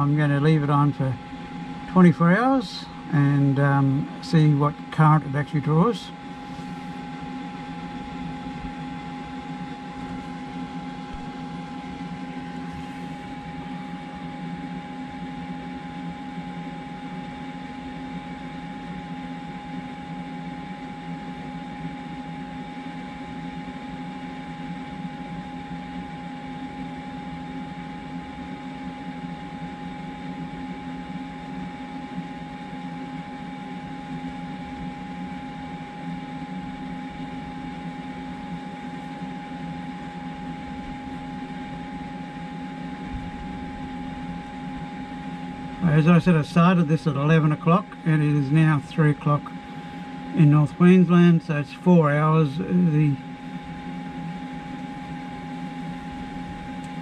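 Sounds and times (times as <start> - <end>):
fridge compressor humming: 0.0 - 57.0.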